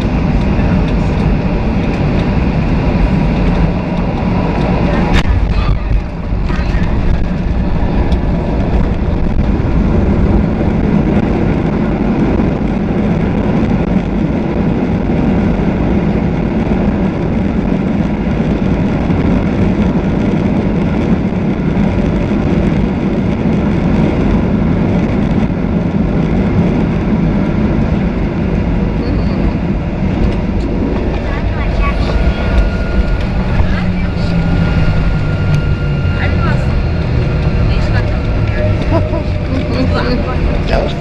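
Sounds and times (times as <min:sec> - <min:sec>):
jet airliner cabin rumble: 0:00.0 - 0:41.0.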